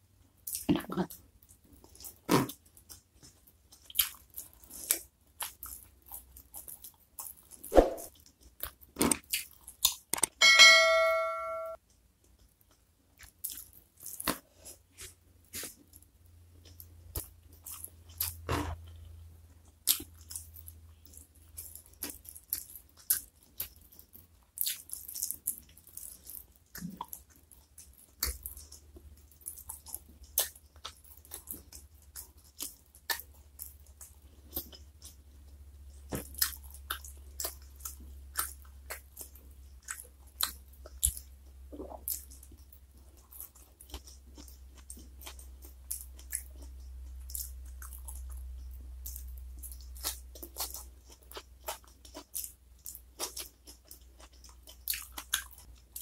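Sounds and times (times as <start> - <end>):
chewing and crunching: 0.4 - 10.4, 12.2 - 56.0.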